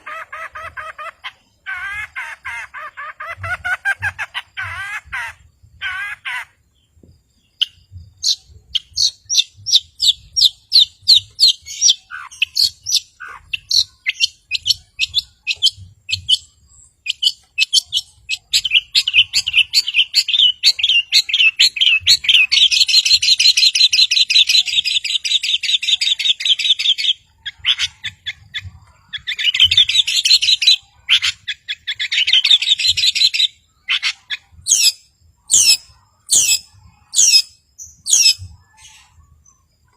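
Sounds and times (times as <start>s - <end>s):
shrike singing with rapid trills: 0.0s - 39.9s.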